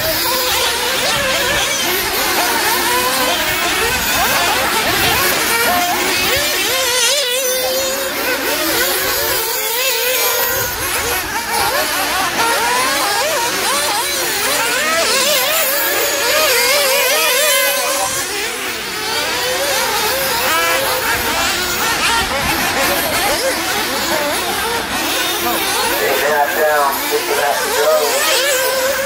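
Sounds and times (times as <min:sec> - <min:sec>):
rc car engines revving: 0:00.0 - 0:29.0.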